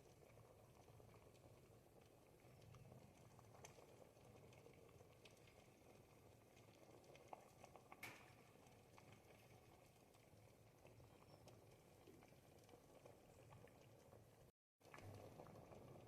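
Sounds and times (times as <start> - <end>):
thick soup bubbling: 0.0 - 16.0.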